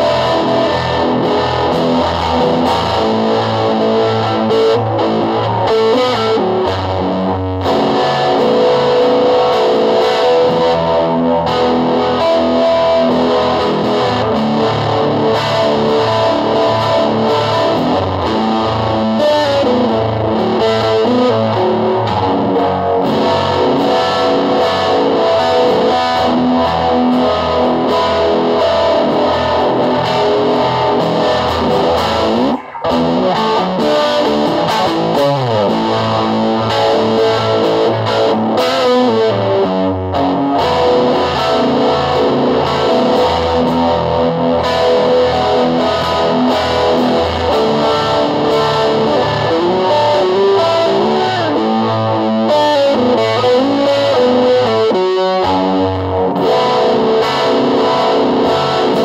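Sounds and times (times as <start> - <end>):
distorted electric guitar music: 0.0 - 59.0.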